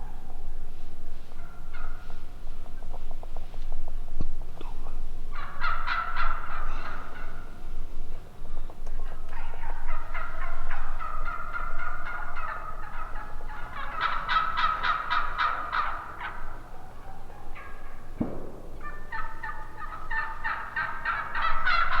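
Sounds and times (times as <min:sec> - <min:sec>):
turkeys gobbling: 0:00.0 - 0:04.0, 0:04.6 - 0:22.0.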